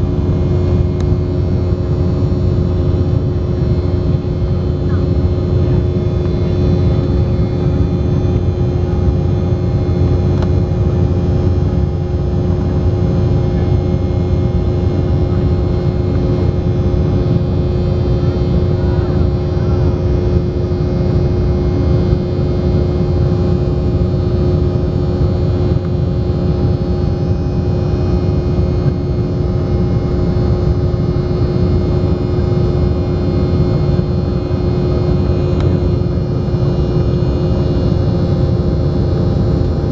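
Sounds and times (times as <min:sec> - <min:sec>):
droning hum: 0:00.0 - 0:39.9
jet engine rumble: 0:00.0 - 0:39.9.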